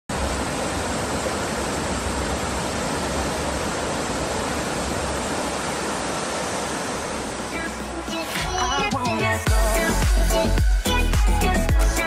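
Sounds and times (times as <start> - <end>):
waterfall rushing: 0.1 - 10.5.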